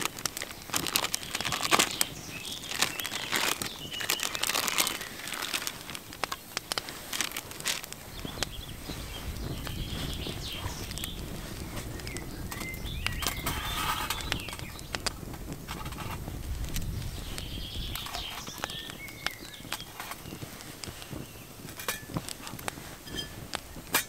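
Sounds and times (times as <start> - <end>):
songbirds chirping: 0.0 - 24.0
twig fire crackling: 0.0 - 24.0.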